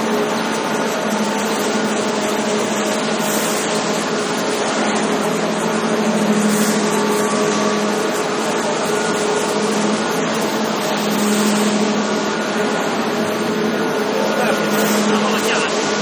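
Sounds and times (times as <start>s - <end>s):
machinery running with hum: 0.0s - 16.0s.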